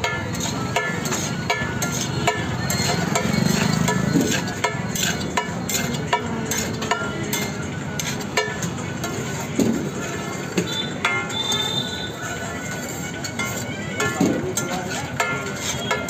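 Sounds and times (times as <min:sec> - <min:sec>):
metal spatula scraping griddle: 0:00.0 - 0:16.0.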